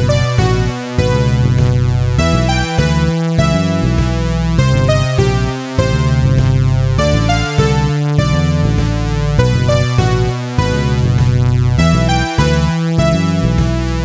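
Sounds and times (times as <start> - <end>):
repeating synth bass line: 0.0 - 14.0
sustained synth chords: 0.0 - 14.0.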